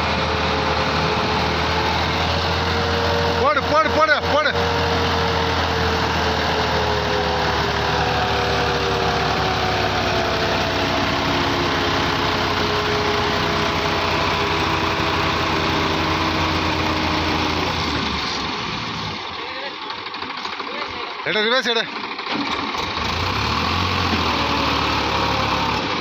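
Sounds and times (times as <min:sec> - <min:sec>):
engine whine: 0:00.0 - 0:26.0
tractor diesel engines under load: 0:00.0 - 0:26.0.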